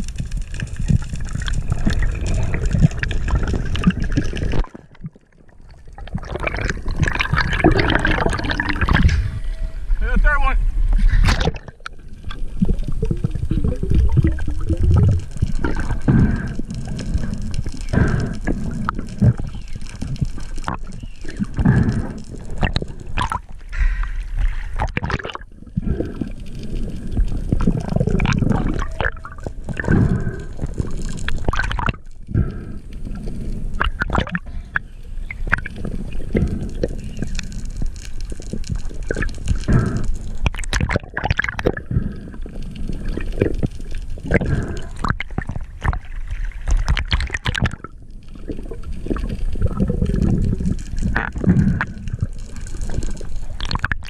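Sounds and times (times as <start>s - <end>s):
underwater gurgling and sloshing: 0.0s - 54.0s
short crackles: 6.3s - 54.0s.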